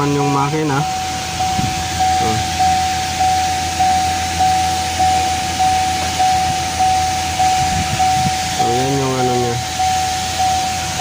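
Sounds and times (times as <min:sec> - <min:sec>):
electronic warning chime: 0:00.0 - 0:11.0.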